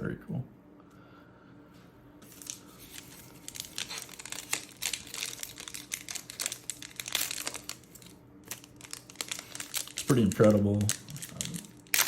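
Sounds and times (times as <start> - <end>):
plastic wrapper tearing and crinkling: 2.2 - 12.0.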